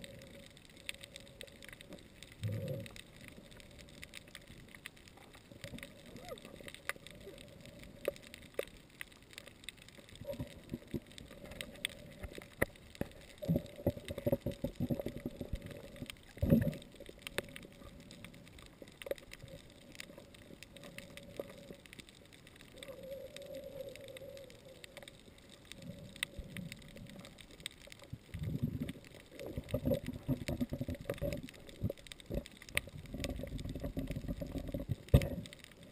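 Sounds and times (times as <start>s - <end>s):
faint clicks: 0.0s - 35.9s
muffled underwater water movement: 0.0s - 35.9s.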